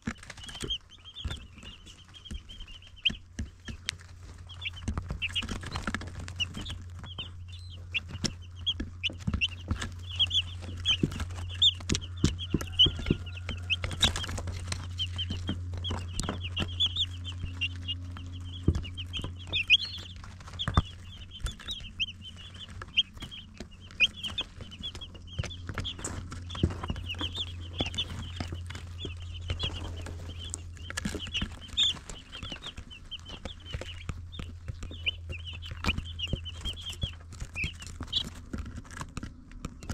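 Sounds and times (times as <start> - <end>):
baby chicks peeping: 0.0 - 39.9
low hum: 0.2 - 39.9.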